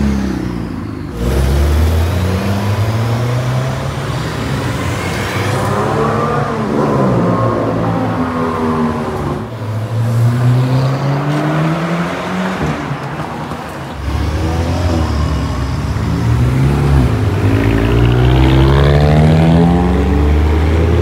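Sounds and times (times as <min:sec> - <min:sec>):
car engines accelerating: 0:00.0 - 0:21.0.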